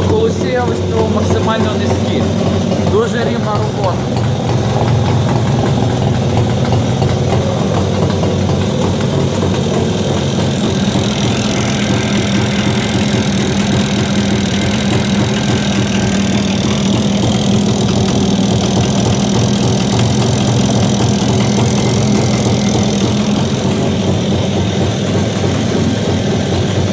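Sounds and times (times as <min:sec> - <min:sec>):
engine knocking: 0:00.0 - 0:26.9
two-stroke engine idling: 0:00.0 - 0:26.9.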